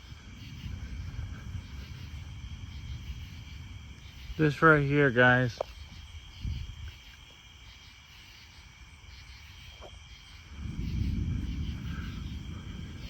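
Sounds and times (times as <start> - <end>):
crickets trilling: 0.0 - 13.0
low thunder rumble: 0.0 - 13.0.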